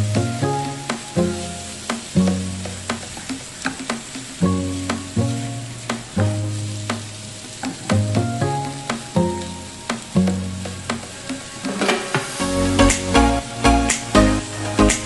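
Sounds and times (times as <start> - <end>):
background music with bass notes: 0.0 - 15.0
squash sizzling in a frying pan: 0.0 - 15.0.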